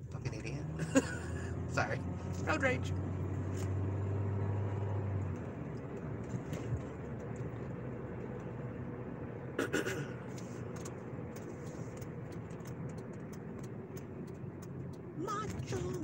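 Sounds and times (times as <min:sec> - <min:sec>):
road and engine hum in car: 0:00.0 - 0:16.0.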